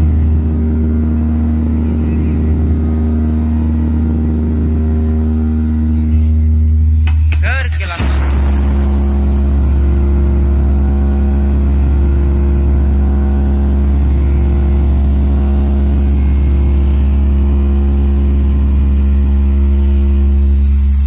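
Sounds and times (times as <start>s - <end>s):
deep bass drone from speaker: 0.0s - 21.0s
higher hum tones: 0.0s - 21.0s.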